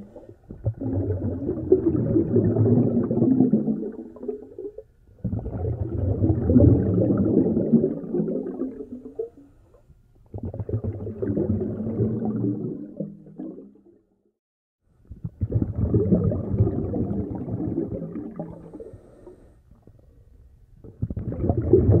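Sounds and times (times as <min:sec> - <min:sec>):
muffled underwater rumbling: 0:00.0 - 0:13.4, 0:15.1 - 0:20.0, 0:20.8 - 0:22.0.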